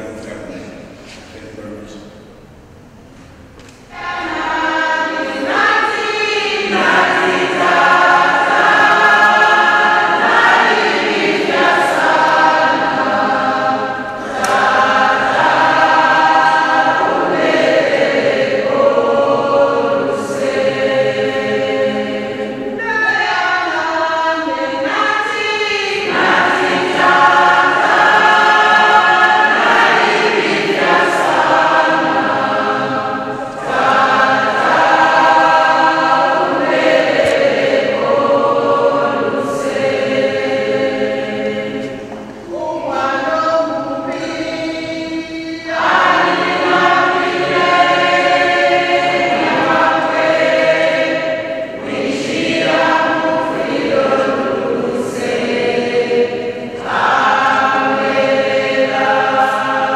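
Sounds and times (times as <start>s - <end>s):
group singing a hymn: 3.6s - 59.9s.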